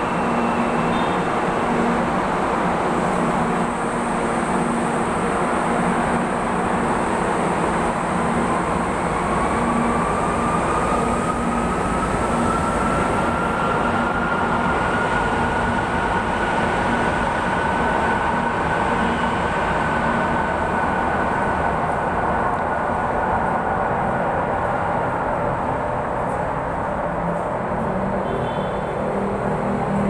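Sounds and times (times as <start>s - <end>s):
train wheels on rail: 0.0s - 30.0s.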